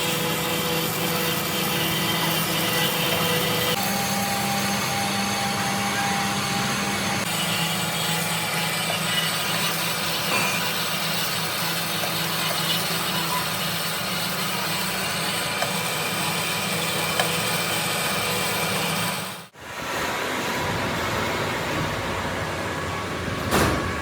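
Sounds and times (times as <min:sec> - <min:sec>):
workshop machinery humming: 0:00.0 - 0:24.0.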